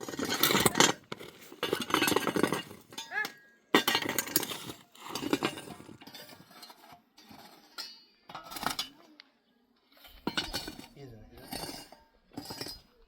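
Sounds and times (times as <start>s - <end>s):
hard objects clinking and knocking: 0.0s - 9.0s, 10.0s - 13.0s.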